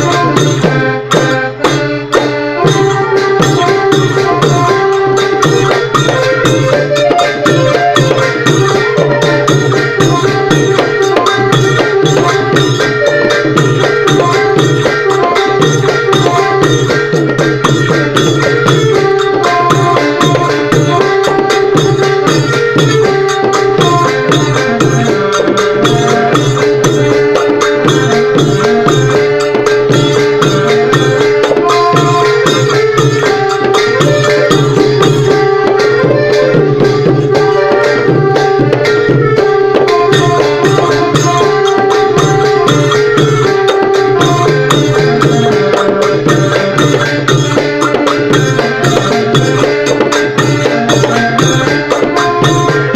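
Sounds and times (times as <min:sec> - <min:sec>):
held melody line: 0:00.0 - 0:52.9
long drums playing fast rhythm: 0:00.0 - 0:52.9.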